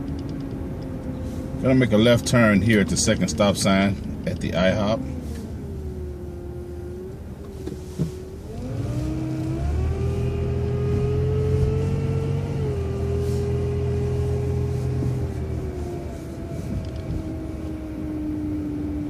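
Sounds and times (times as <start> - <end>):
bus engine and drivetrain whine: 0.0 - 19.0.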